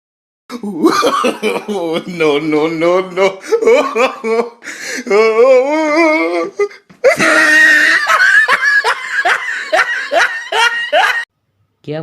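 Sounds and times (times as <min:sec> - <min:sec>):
loud hearty laughter: 0:00.6 - 0:11.3.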